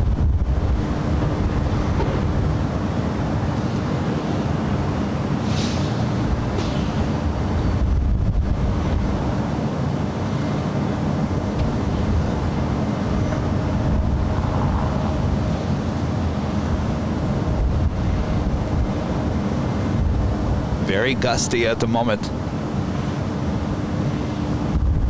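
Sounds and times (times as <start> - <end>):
wind buffeting microphone: 0.0 - 20.8, 22.4 - 25.0.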